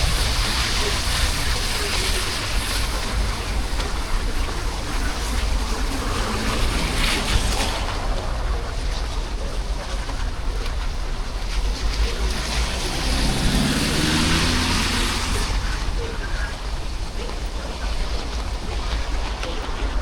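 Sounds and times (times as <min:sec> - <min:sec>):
road noise: 0:00.0 - 0:20.0
scooter engine hum: 0:00.0 - 0:20.0
wind rushing over microphone: 0:00.0 - 0:20.0.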